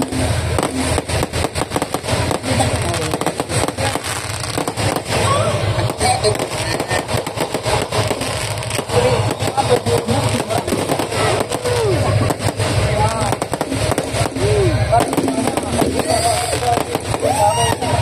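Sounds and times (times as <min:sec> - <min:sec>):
fireworks banging and crackling: 0:00.0 - 0:18.0.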